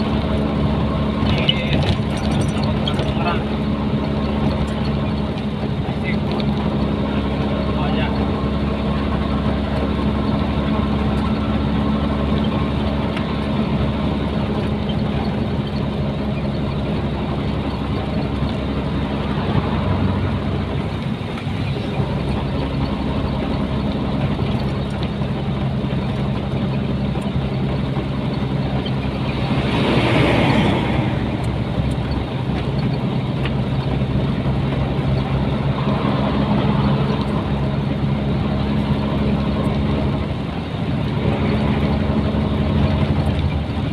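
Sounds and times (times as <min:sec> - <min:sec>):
truck diesel engine running: 0:00.0 - 0:43.9.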